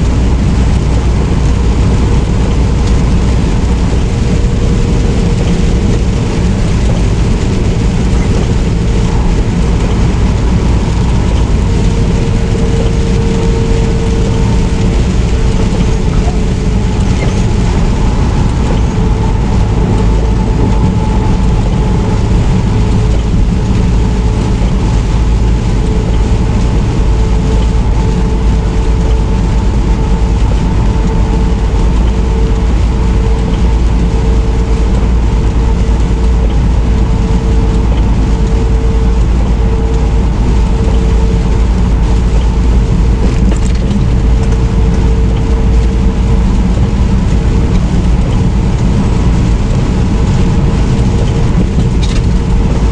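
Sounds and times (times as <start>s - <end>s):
truck engine and road rumble: 0.0s - 52.9s.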